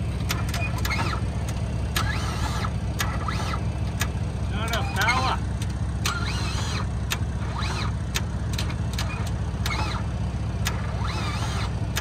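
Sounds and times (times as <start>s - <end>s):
car engine knocking: 0.0s - 12.0s
engine squealing: 0.0s - 12.0s.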